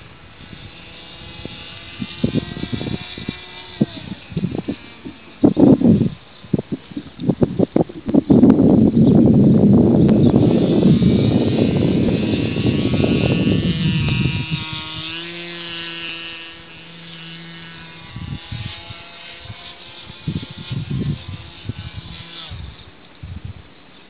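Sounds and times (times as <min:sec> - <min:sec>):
wind buffeting microphone: 0:00.0 - 0:23.9
model airplane motor droning: 0:00.0 - 0:24.0.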